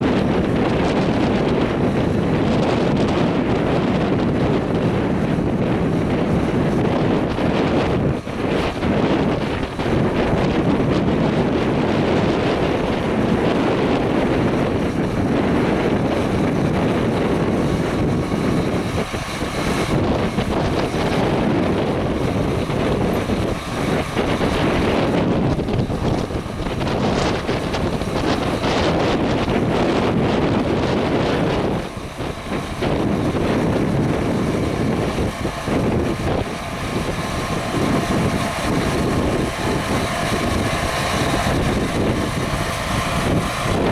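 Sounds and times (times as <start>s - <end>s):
tractor running: 0.0s - 43.9s
wind buffeting microphone: 0.0s - 43.9s.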